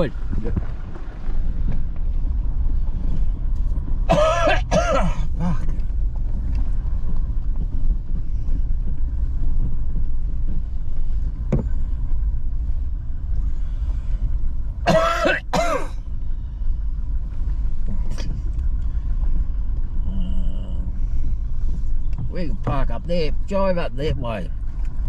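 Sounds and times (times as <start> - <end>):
vehicle driving slowly: 0.0 - 25.0.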